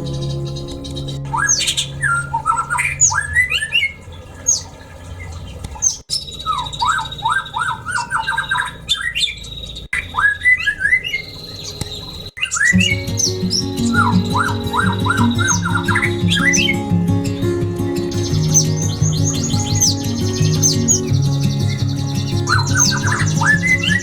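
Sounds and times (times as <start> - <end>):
birds chirping and squawking: 0.0 - 24.0.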